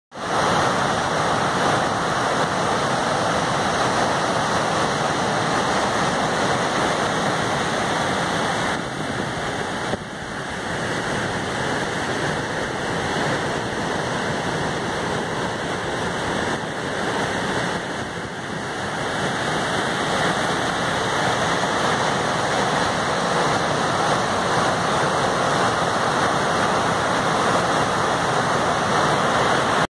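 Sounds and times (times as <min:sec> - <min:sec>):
waterfall and rapids rushing: 0:00.1 - 0:29.9.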